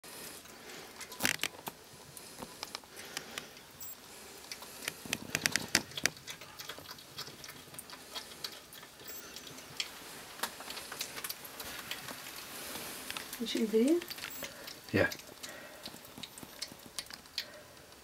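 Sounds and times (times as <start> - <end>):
porcupine crunching corn: 0.1 - 18.0.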